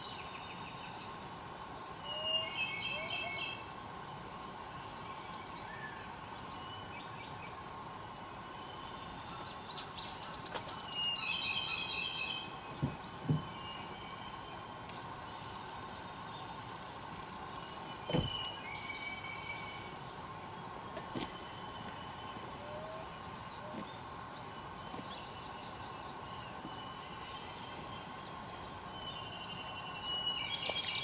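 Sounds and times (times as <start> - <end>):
songbirds singing trills: 0.0 - 31.0.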